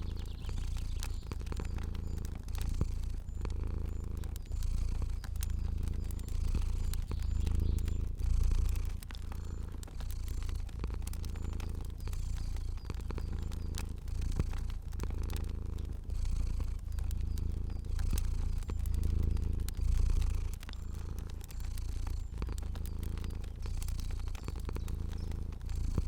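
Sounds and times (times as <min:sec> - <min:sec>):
cat purring: 0:00.0 - 0:26.0
fire crackling and popping: 0:00.0 - 0:26.0.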